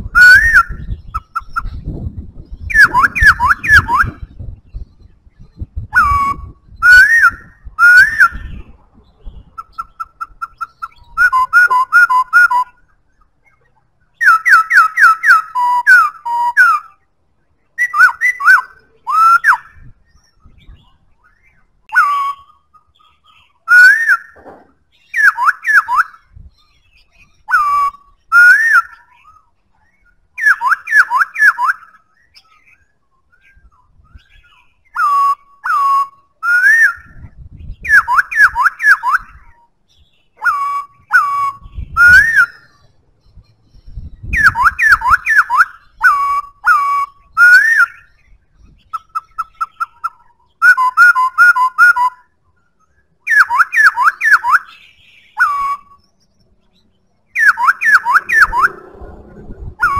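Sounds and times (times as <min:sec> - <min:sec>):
bird singing whistled phrases: 0:00.0 - 0:17.1, 0:17.8 - 0:58.9
soft rapid bird trill: 0:00.0 - 0:59.9.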